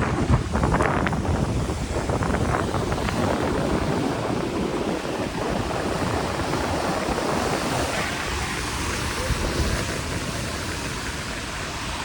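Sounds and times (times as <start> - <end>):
surf washing against rocks: 0.0 - 12.0
wind gusting across microphone: 0.0 - 12.0.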